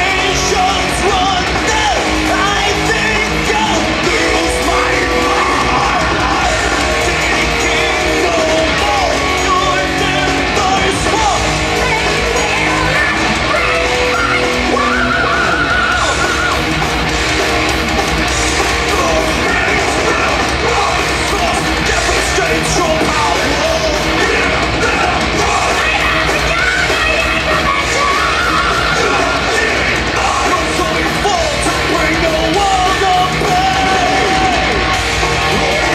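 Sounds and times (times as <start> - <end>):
person singing: 0.0 - 16.6, 18.6 - 35.9
heavy metal band playing live: 0.0 - 35.9.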